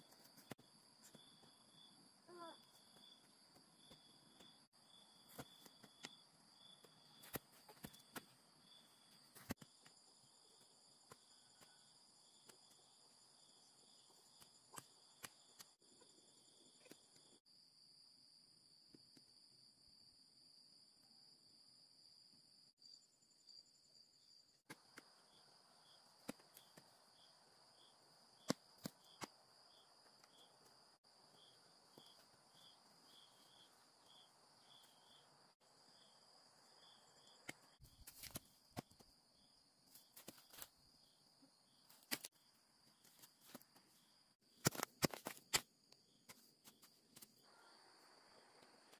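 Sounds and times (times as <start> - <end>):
insect chirp: 0.0 - 48.9.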